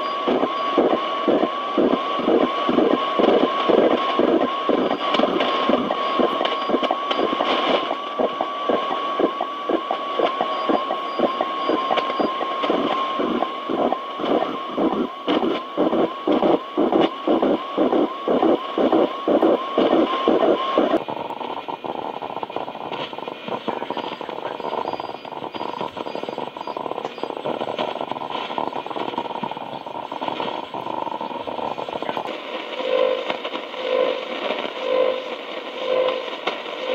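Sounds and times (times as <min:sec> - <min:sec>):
radio static hiss: 0:00.0 - 0:36.9.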